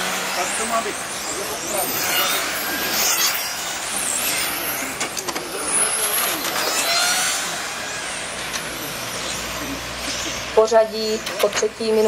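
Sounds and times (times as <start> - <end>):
rc car motors whining: 0.0 - 12.0.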